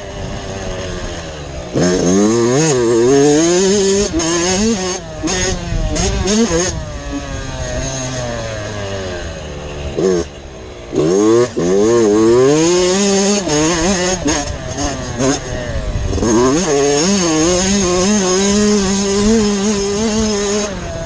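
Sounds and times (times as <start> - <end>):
two-stroke motocross engine revving: 0.0 - 21.0.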